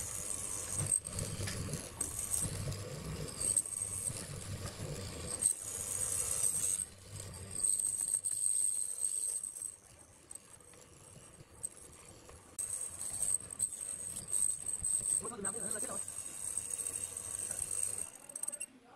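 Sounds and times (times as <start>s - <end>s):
mortiser whine cutting wood: 0.0s - 10.0s, 10.7s - 18.6s.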